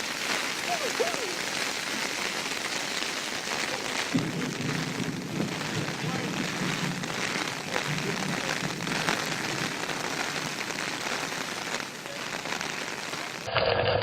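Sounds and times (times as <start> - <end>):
heavy rain pouring: 0.0 - 13.5.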